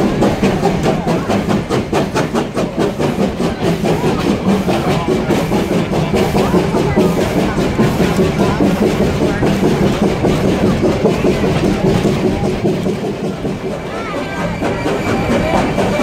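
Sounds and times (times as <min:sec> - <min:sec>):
low train rumble: 0:00.0 - 0:16.0
rail clatter: 0:00.0 - 0:16.0
steam locomotive chuffing: 0:00.0 - 0:16.0.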